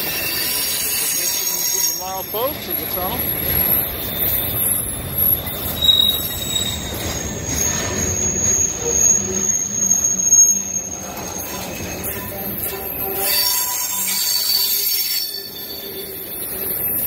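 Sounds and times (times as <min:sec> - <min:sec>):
freight train wheels rumbling: 0:00.0 - 0:17.0
high-pitched wheel squeal: 0:00.0 - 0:17.0.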